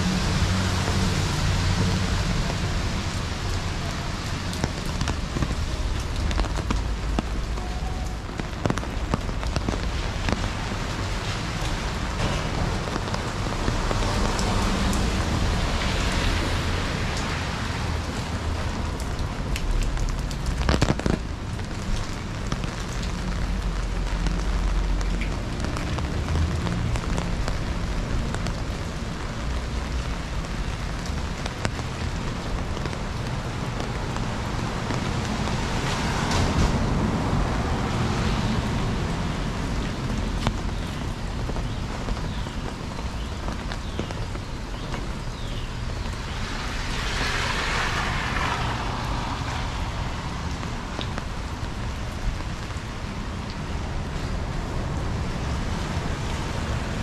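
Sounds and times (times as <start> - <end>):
rain falling on street: 0.0 - 57.0.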